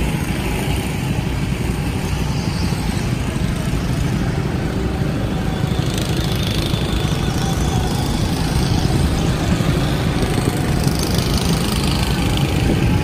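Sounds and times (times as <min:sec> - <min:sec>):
go-kart engines droning: 0:00.0 - 0:13.0.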